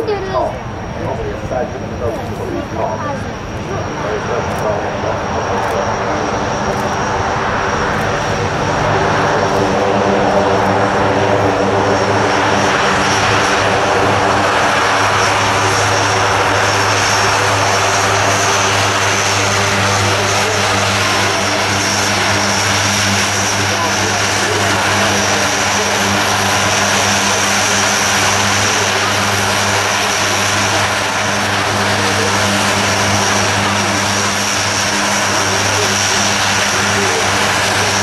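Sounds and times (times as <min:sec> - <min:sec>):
turboprop engines droning: 0:00.0 - 0:38.0.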